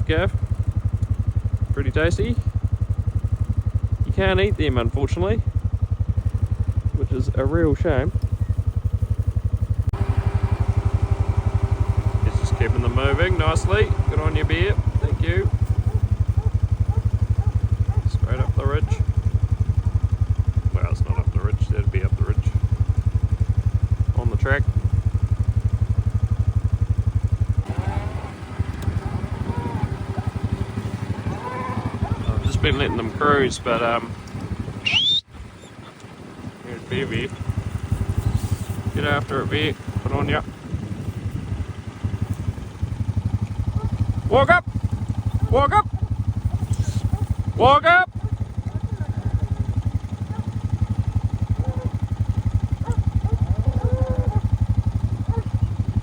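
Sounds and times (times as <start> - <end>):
small engine puttering: 0.0 - 56.0.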